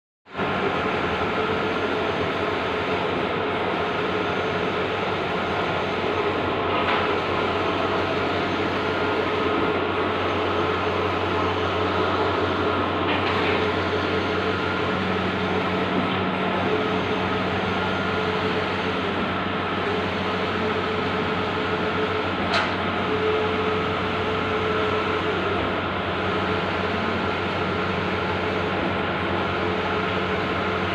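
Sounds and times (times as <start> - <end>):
printer mechanical hum and hiss: 0.3 - 30.9.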